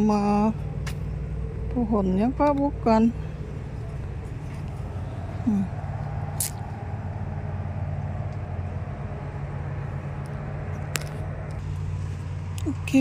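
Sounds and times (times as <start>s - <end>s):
motor running with low hum: 0.0s - 13.0s.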